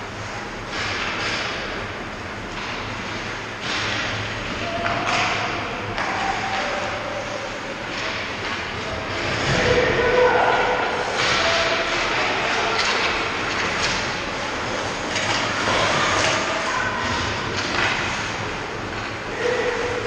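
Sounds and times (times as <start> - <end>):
hockey sticks and puck clacking: 0.6 - 1.8, 2.4 - 20.0.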